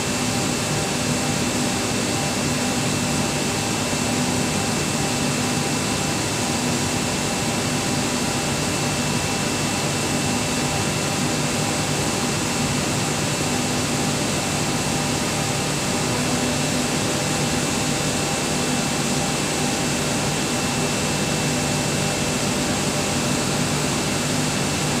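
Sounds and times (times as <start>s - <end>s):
air compressor running: 0.0s - 25.0s.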